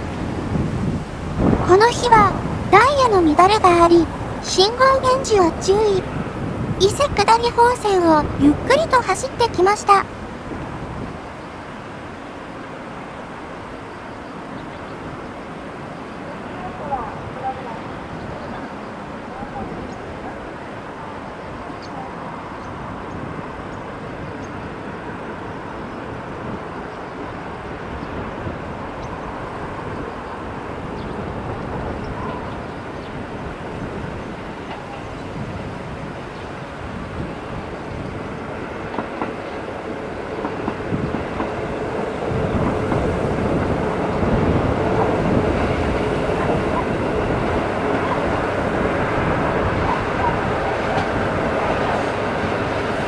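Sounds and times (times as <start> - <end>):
diesel railcar engine: 0.0 - 53.0.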